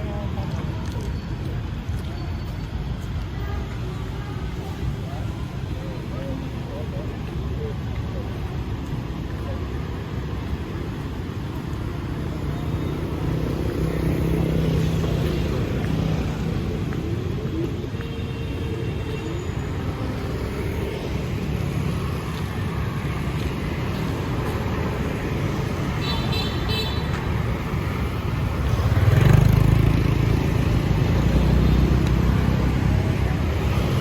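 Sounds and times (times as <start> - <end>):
motorbikes and cars passing: 0.0 - 34.0.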